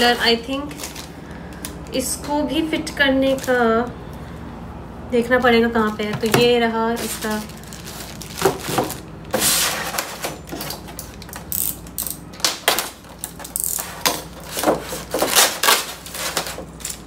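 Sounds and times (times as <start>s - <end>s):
plastic bags crinkling: 0.0s - 2.0s, 2.8s - 3.9s, 5.4s - 17.0s.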